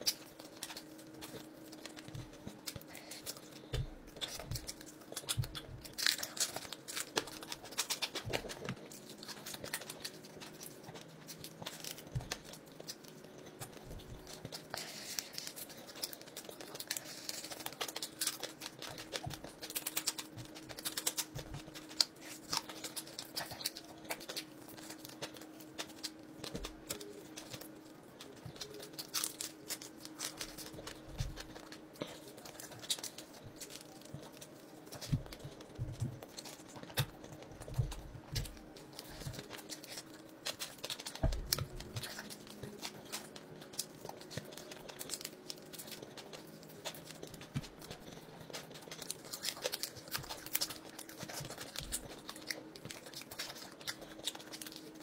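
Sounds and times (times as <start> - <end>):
faint steady hum: 0.0 - 55.0
small clicks and crackles: 0.0 - 55.0
wet chewing and lip-smacking: 0.0 - 55.0.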